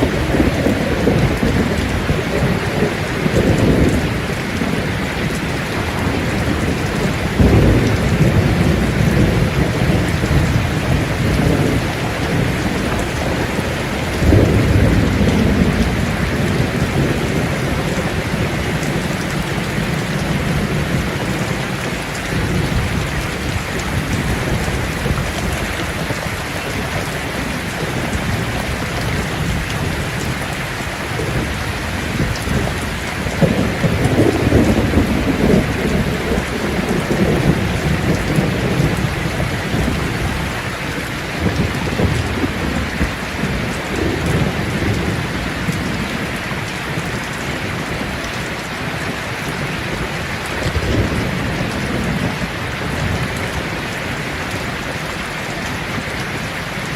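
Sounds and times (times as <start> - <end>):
thunder rolling: 0.0 - 48.2
heavy rain falling: 0.0 - 56.9.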